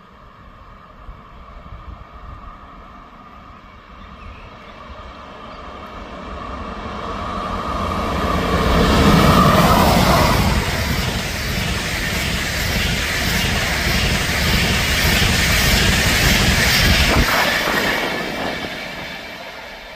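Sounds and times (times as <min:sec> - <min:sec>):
train passing on rails: 0:00.0 - 0:19.9.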